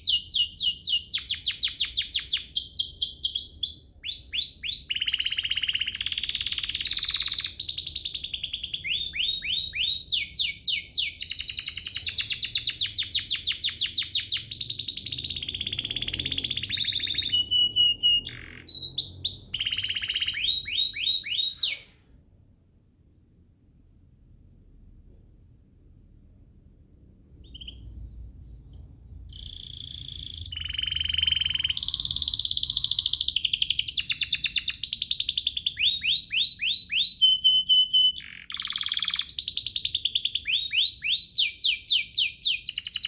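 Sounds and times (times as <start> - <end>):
canary singing trills: 0.0 - 21.9, 27.4 - 43.0.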